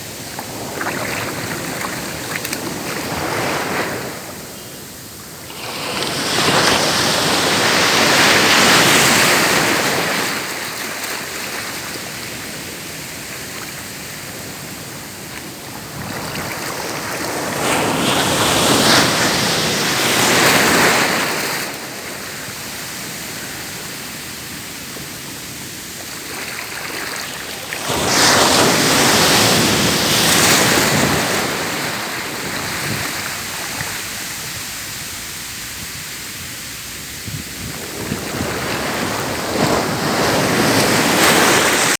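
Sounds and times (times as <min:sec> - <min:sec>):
sea waves breaking on shore: 0:00.0 - 0:41.9.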